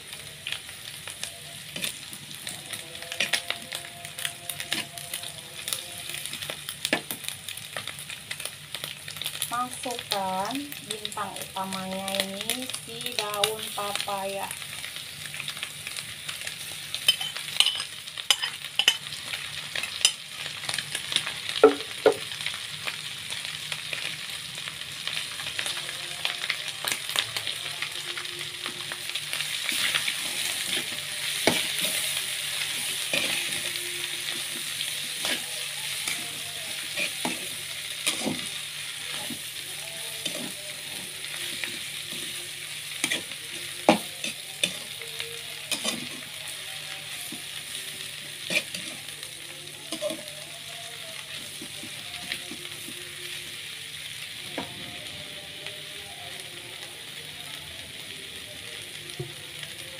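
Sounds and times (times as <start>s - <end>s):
food sizzling in oil: 0.0s - 59.9s.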